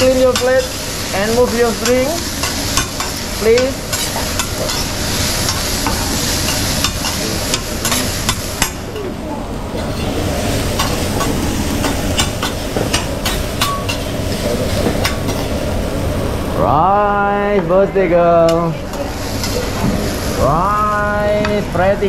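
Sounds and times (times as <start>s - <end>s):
rice sizzling on a griddle: 0.0s - 9.0s, 9.8s - 16.5s, 18.6s - 21.4s.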